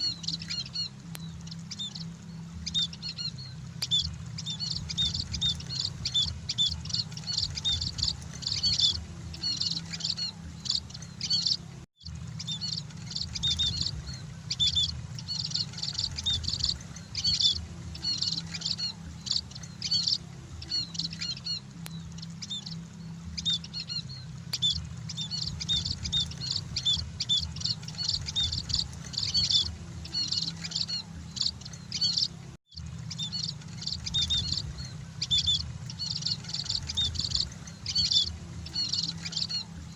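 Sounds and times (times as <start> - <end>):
small birds chirping rapidly: 0.0 - 39.9
steady low hum: 0.0 - 39.9.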